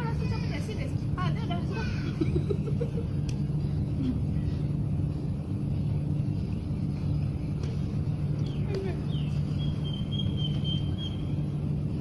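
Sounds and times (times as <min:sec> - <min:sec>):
low mechanical hum and rumble: 0:00.0 - 0:12.0.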